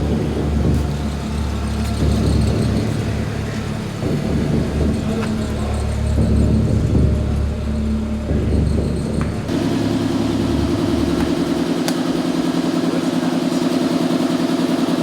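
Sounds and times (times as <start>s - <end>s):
motor pulsing hum: 0.0s - 15.0s.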